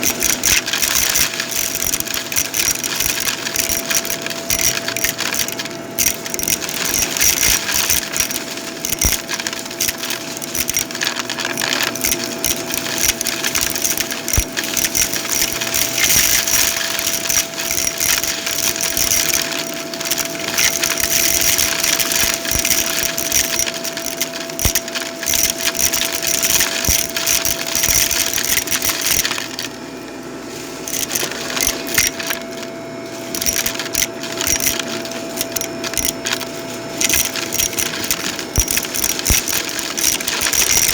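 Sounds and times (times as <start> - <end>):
debris crackling in vacuum: 0.0 - 40.9
vacuum cleaner running: 0.0 - 40.9.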